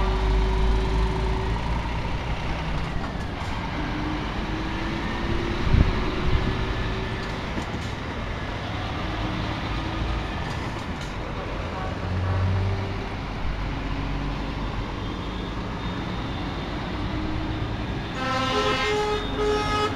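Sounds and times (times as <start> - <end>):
diesel trucks driving past: 0.0 - 19.9.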